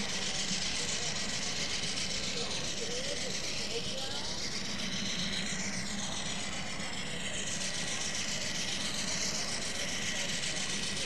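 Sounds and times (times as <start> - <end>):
thin high whine: 0.0 - 11.0.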